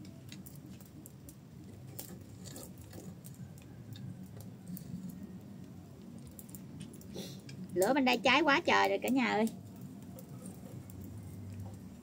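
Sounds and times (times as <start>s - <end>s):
firewood crackling: 0.0s - 12.0s.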